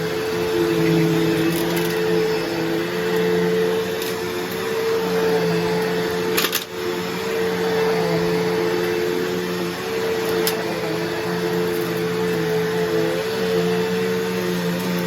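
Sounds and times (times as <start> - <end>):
vacuum cleaner motor hum: 0.0 - 15.0.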